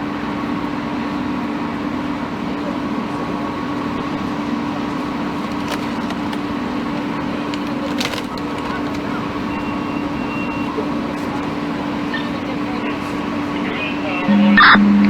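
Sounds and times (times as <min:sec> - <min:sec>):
rushing outdoor background noise: 0:00.0 - 0:15.0
steady mechanical hum: 0:00.0 - 0:15.0.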